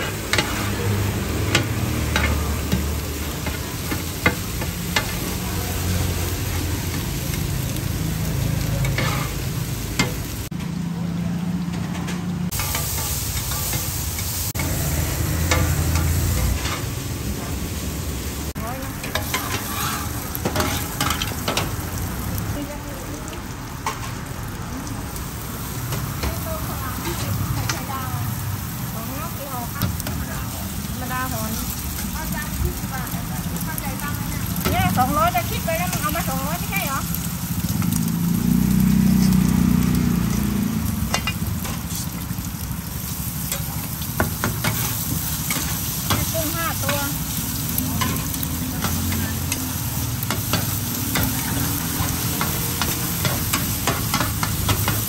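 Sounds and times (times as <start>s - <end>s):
food sizzling on griddle: 0.0s - 55.0s.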